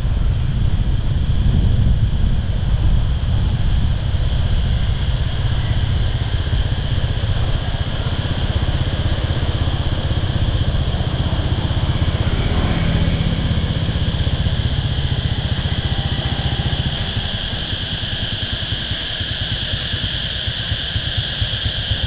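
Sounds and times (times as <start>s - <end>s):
cicadas chorus: 0.0s - 22.0s
motorbike engine running: 0.0s - 22.0s
wind rumble on microphone: 0.0s - 22.0s.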